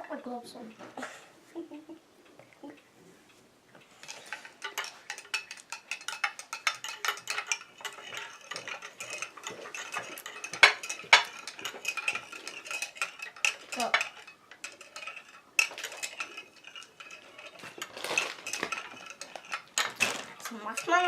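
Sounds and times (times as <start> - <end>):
teaspoon clinking in a mug: 4.0 - 21.0.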